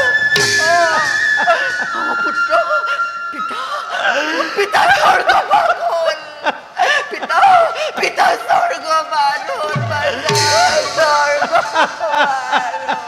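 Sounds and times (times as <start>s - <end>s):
audience laughing: 0.6s - 13.0s.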